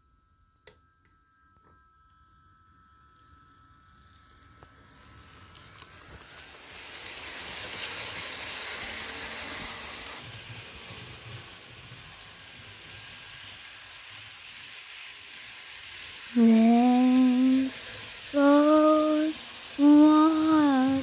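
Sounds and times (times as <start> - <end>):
model train whirring on track: 0.8 - 21.0.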